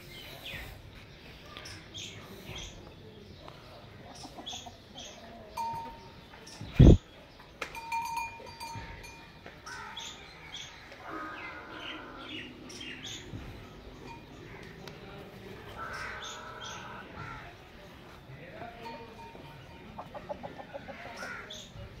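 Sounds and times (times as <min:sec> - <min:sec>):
small birds chirping: 0:00.0 - 0:07.9, 0:08.5 - 0:22.0.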